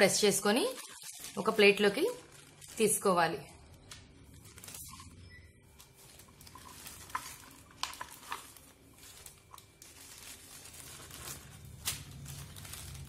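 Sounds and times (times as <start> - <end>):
plastic sheet rustling: 0.0 - 13.0.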